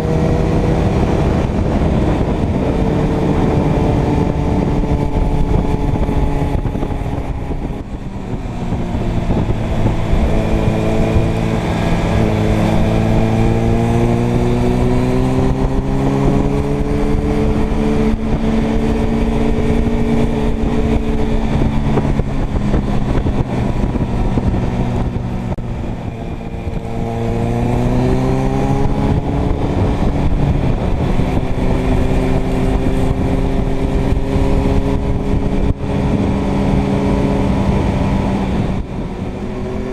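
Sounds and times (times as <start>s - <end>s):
motorcycle engine accelerating: 0.0s - 39.9s
wind rushing: 0.0s - 39.9s.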